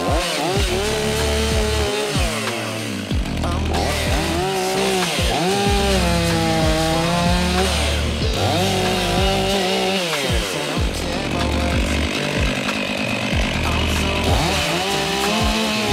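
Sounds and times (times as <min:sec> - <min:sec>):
chainsaw cutting wood: 0:00.0 - 0:15.9.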